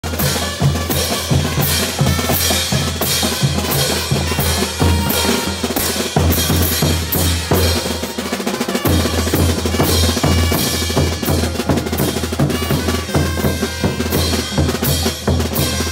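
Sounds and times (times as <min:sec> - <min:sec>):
brass band playing: 0:00.0 - 0:15.9
pounding bass drums: 0:00.0 - 0:15.9.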